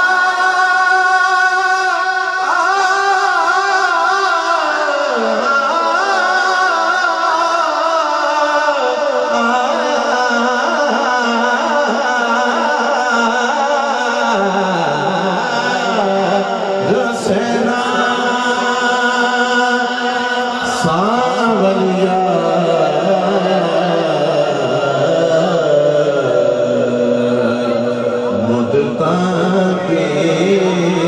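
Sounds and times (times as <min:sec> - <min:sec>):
man singing into a microphone: 0:00.0 - 0:31.0.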